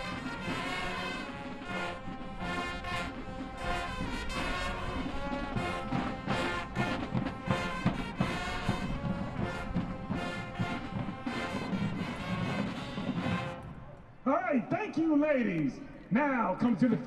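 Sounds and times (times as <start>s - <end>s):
brass section chords: 0.0s - 16.0s.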